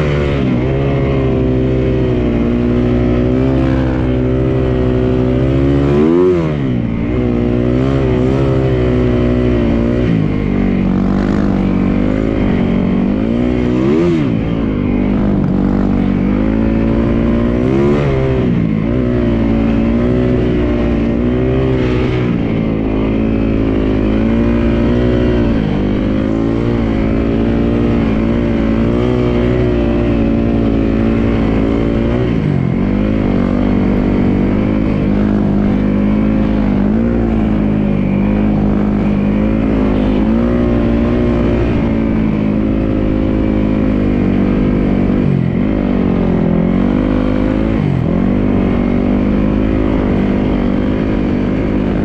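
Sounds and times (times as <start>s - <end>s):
snowmobile engine running: 0.0s - 52.0s.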